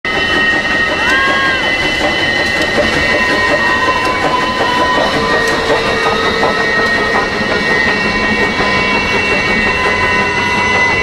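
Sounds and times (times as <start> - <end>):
steam train rumble: 0.0 - 11.0
high steady tones: 0.1 - 11.0.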